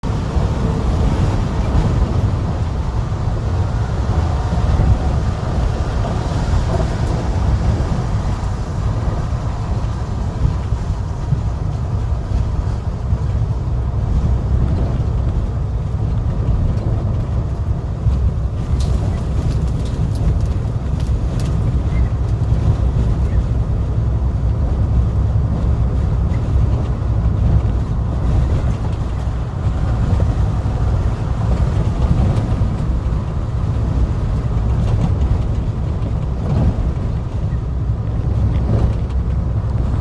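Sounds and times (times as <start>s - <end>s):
heavy truck engine rumbling: 0.0s - 40.0s.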